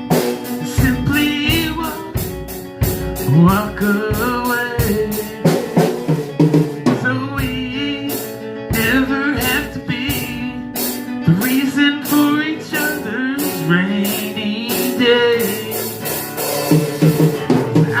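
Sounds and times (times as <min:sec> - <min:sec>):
drum kit with cymbals: 0:00.0 - 0:18.0
guitar and bass: 0:00.0 - 0:18.0.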